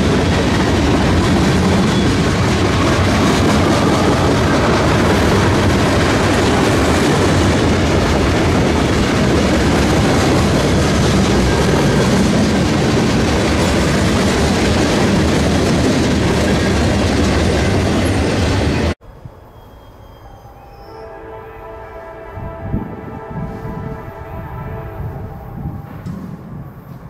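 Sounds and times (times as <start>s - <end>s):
freight train wheels rumbling on rails: 0.0s - 19.0s, 21.6s - 27.0s.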